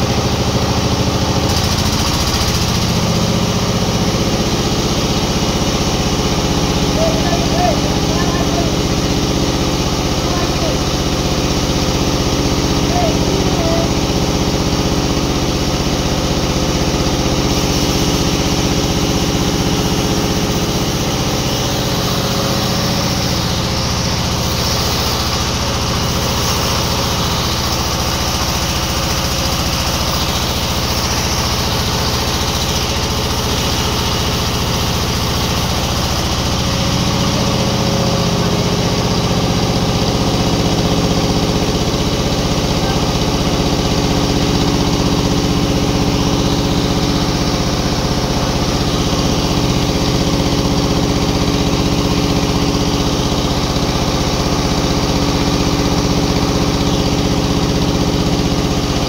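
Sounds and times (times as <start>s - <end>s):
sawmill machine engine droning: 0.0s - 59.0s.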